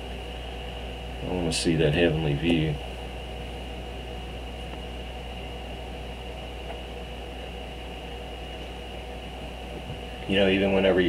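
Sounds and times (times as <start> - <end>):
background hum and hiss: 0.0 - 11.0
faint high whine: 0.0 - 11.0.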